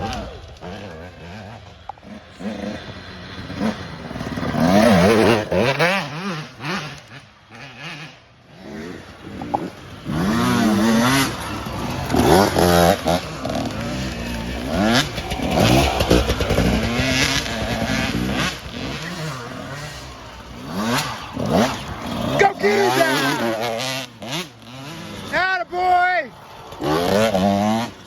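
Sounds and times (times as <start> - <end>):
small engine revving: 0.0 - 25.5, 26.2 - 28.0.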